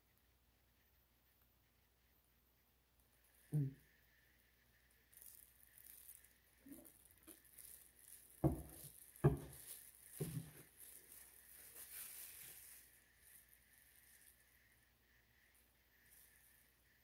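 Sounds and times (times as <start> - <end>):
palette knife working paint: 0.0 - 17.0.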